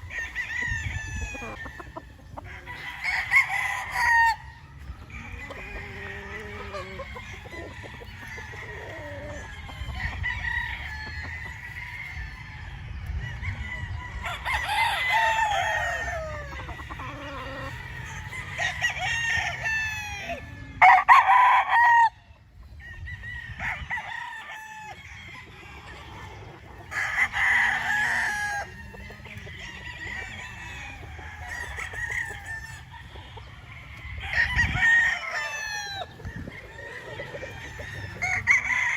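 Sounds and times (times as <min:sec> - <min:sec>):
chickens clucking: 0:00.0 - 0:38.9
roosters crowing: 0:00.0 - 0:38.9.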